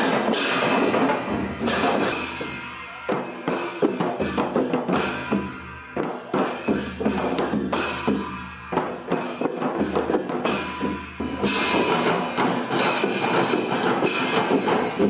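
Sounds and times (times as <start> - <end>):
cymbals clashing: 0.0 - 15.0
drums beaten in steady rhythm: 0.0 - 15.0.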